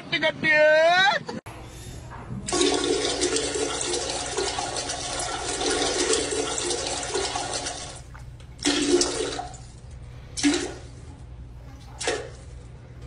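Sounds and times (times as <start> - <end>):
toilet flushing: 1.8 - 13.0.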